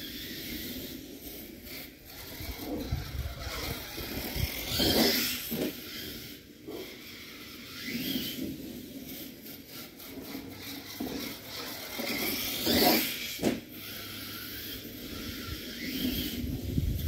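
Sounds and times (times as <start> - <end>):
toy truck motor and tyres: 0.0 - 17.0.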